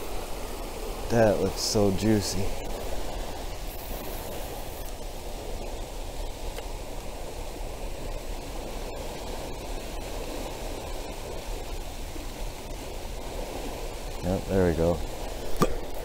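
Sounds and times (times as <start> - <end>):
water rushing from spillway: 0.0 - 16.0.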